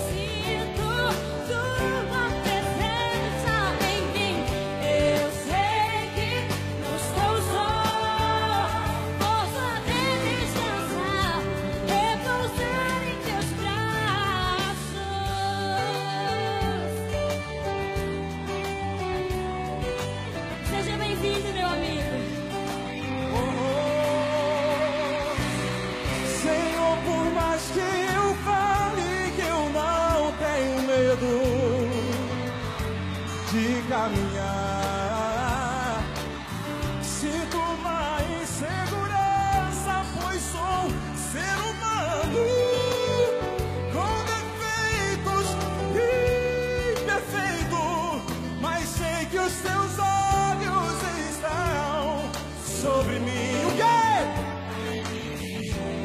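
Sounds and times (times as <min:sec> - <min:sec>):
man singing with vibrato: 0:00.0 - 0:16.6, 0:23.1 - 0:32.5, 0:33.4 - 0:56.0
bass: 0:00.0 - 0:56.0
drums: 0:00.0 - 0:56.0
electric guitar: 0:00.0 - 0:56.0.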